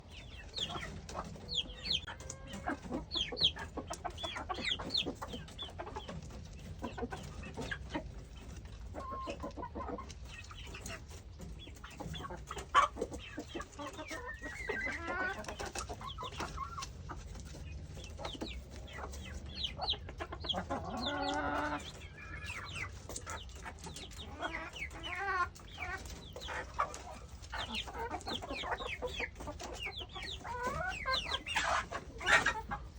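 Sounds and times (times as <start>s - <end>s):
beaks pecking at a pumpkin: 0.0s - 32.9s
chickens clucking: 0.0s - 32.9s.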